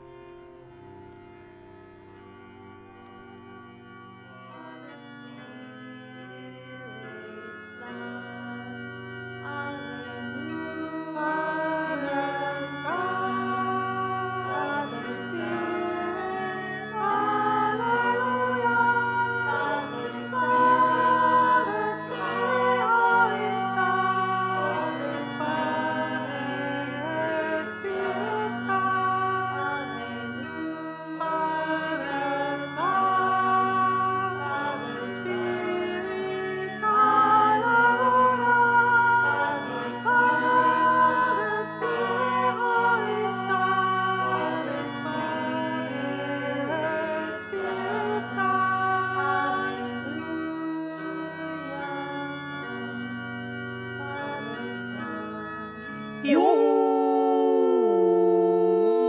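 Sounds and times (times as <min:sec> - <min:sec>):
choir singing in harmony: 0:04.2 - 0:59.0.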